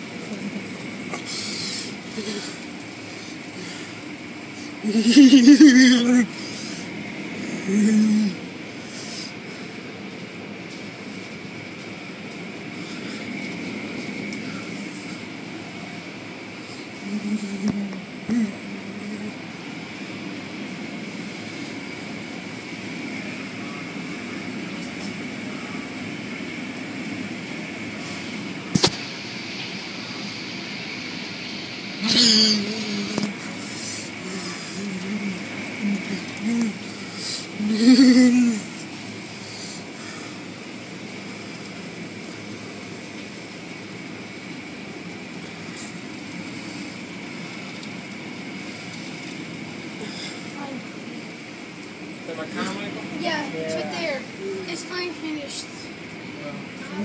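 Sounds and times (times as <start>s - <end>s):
high whine: 0.0s - 57.0s.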